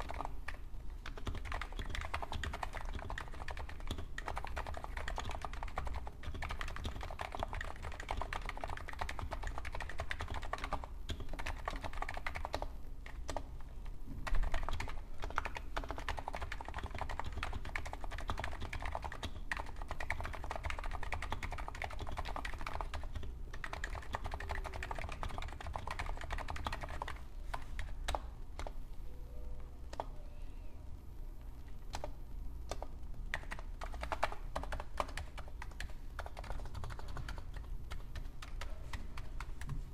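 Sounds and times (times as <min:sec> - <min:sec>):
keyboard typing: 0:00.0 - 0:13.6, 0:14.2 - 0:28.8, 0:29.9 - 0:30.2, 0:31.6 - 0:39.9.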